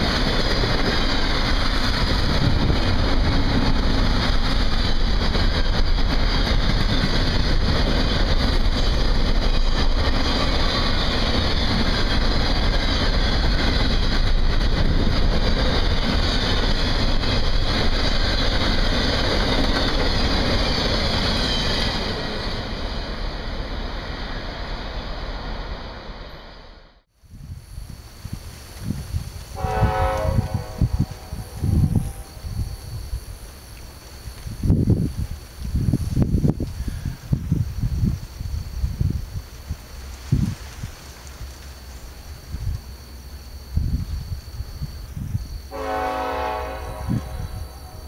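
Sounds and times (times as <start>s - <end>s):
freight train wheels on rail: 0.0s - 48.0s.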